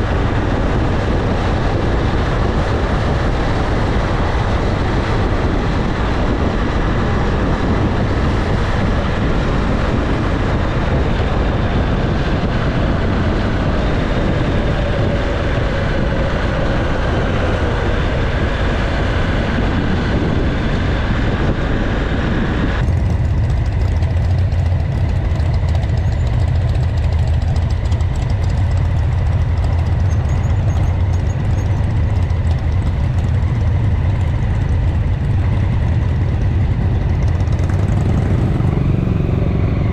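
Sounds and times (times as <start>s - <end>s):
motorcycle engine running: 0.0s - 39.9s
rushing wind and road noise: 0.0s - 39.9s.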